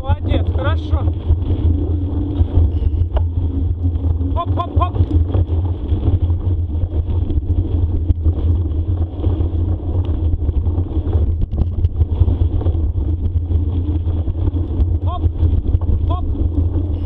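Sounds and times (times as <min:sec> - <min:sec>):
bicycle rumbling on a trail: 0:00.0 - 0:17.0
wind on microphone: 0:00.0 - 0:17.0.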